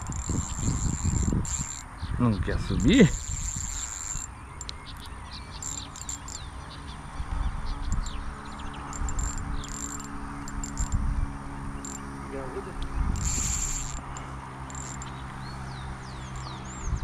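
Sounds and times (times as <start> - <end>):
insect buzzing: 0.0 - 17.0
small birds chirping: 0.0 - 17.0.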